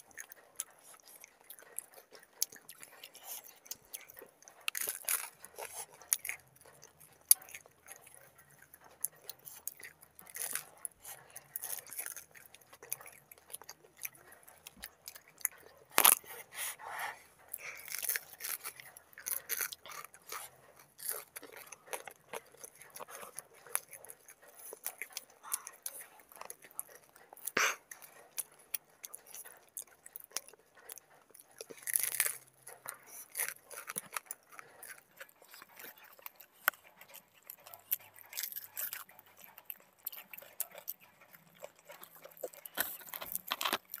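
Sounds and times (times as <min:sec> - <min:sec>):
people chewing crunchy pastry: 0:00.0 - 0:44.0.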